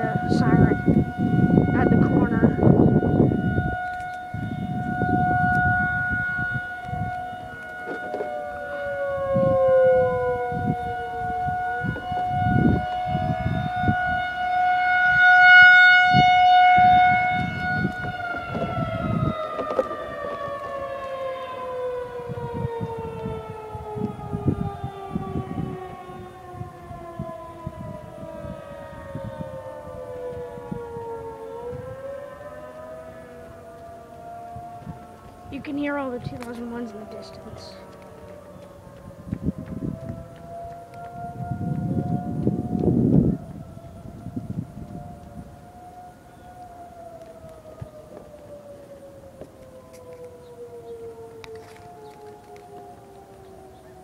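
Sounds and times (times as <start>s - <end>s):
distant sirens rising and falling: 0.0s - 54.0s
warning siren winding down: 0.0s - 54.0s.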